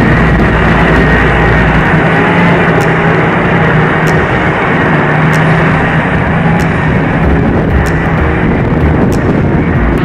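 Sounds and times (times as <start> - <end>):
forage harvester running: 0.0 - 10.0
steady low hum: 0.0 - 10.0.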